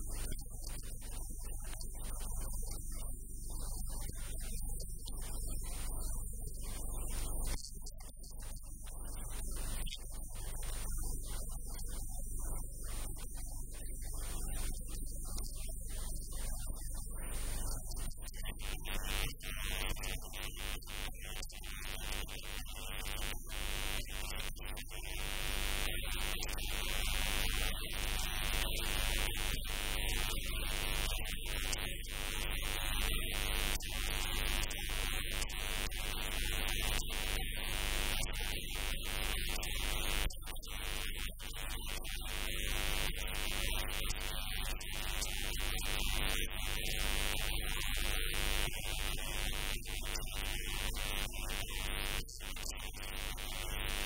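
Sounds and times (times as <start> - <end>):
hiss and static: 0.0 - 54.0
thin high whine: 0.0 - 54.0.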